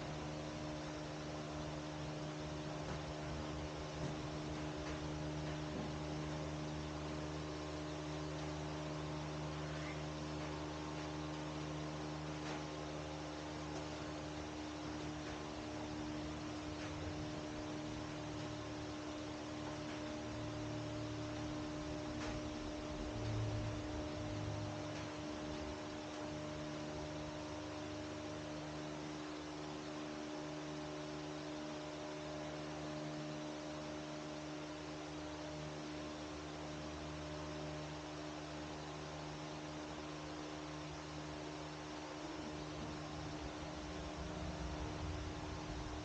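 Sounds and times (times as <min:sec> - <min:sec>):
two-tone steady hum: 0:00.0 - 0:46.0.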